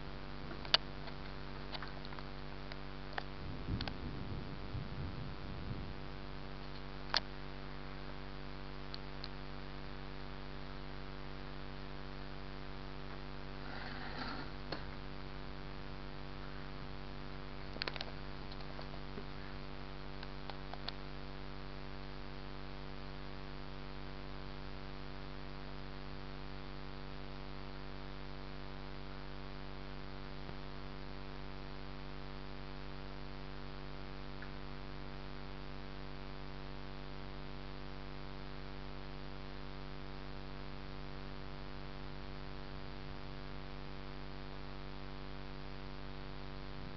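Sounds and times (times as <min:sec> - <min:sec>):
electrical hum: 0:00.0 - 0:46.9.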